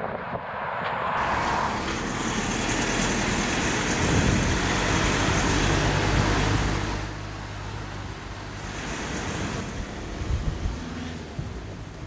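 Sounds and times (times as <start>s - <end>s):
passing vehicles rushing: 0.0s - 12.0s
low engine rumble: 1.2s - 12.0s.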